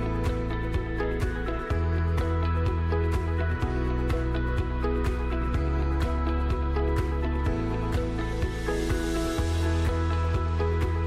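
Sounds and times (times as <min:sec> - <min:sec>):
background music with light beat: 0:00.0 - 0:11.0.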